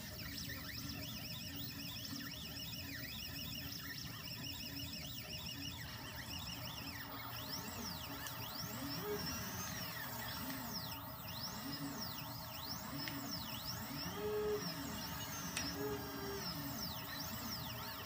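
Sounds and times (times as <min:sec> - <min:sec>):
steady hum: 0:00.0 - 0:18.0
stepper motors sweeping in pitch: 0:00.1 - 0:18.0.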